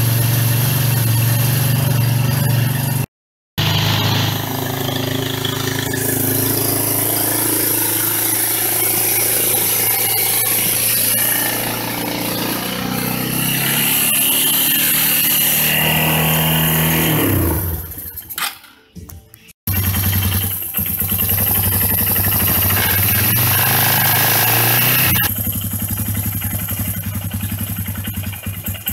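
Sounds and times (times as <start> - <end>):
atv engine running: 0.0 - 18.2, 19.7 - 28.9.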